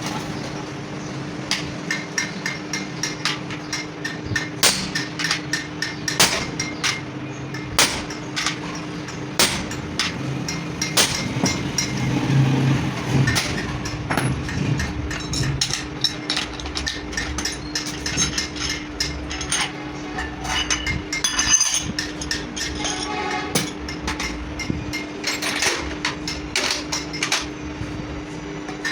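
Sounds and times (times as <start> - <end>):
metal tools tapping metal: 1.5 - 27.7, 28.6 - 28.9.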